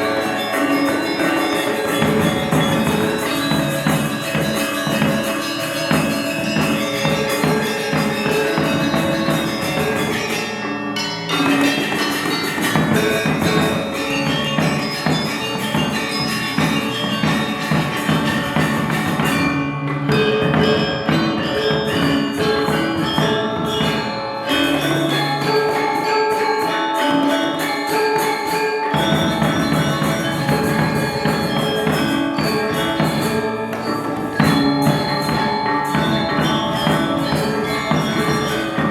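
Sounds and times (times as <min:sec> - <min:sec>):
gamelan ensemble playing: 0:00.0 - 0:38.9.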